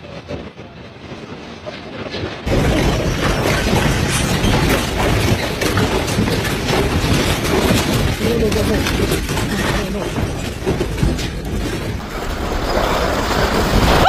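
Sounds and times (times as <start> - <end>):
room shaking in earthquake: 0.0 - 14.0.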